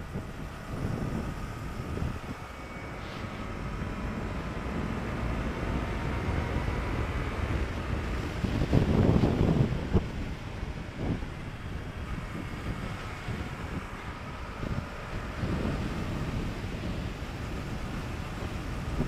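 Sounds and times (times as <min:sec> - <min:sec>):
wind gust buffeting microphone: 0:00.0 - 0:19.0
wind rushing over microphone: 0:00.0 - 0:19.0.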